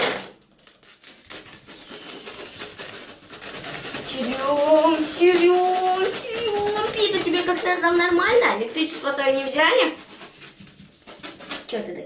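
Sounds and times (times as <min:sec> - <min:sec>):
balloon rubbing on hair: 0:00.8 - 0:12.0.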